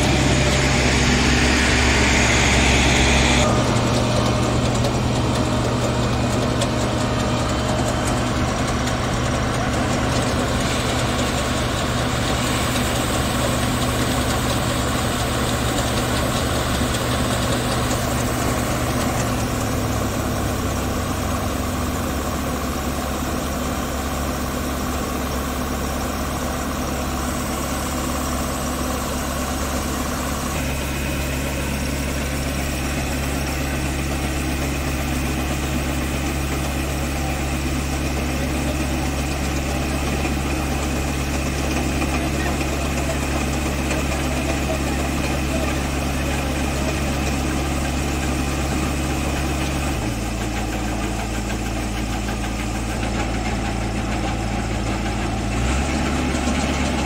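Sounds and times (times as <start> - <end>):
combine harvester engine and machinery: 0.0 - 57.0.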